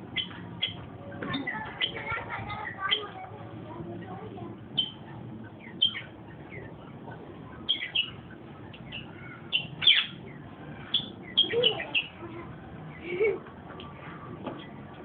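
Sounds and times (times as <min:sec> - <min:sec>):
parrots chirping: 0:00.0 - 0:15.0.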